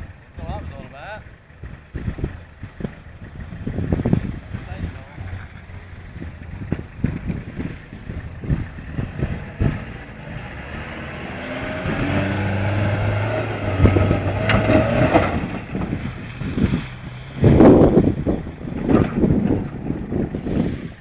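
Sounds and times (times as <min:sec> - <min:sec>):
pickup engine revving: 0:01.6 - 0:21.0.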